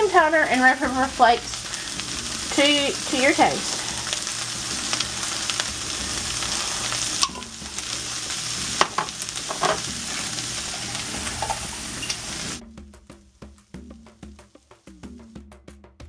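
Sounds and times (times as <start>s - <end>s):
cabbage sizzling in skillet: 0.0s - 15.1s.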